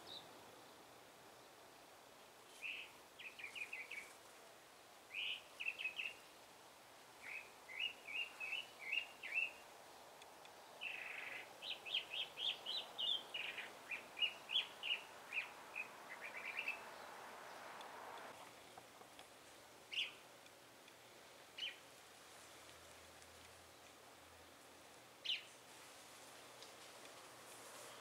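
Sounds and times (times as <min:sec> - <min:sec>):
songbird singing: 0:00.0 - 0:25.6.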